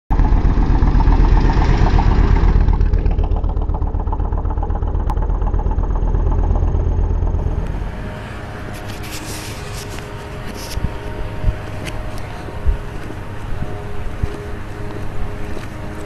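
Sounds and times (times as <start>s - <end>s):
engine running with rapid pulse: 0.1s - 16.0s.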